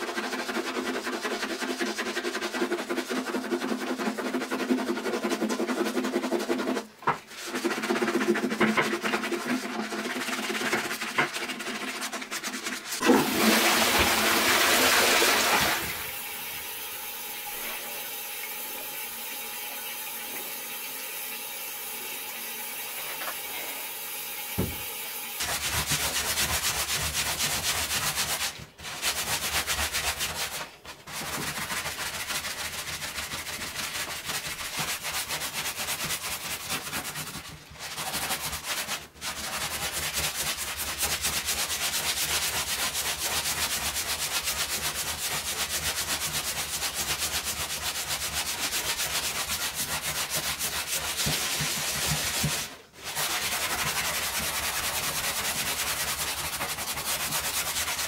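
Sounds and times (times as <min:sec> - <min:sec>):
scrubbing bathtub floor: 0:00.0 - 0:58.0.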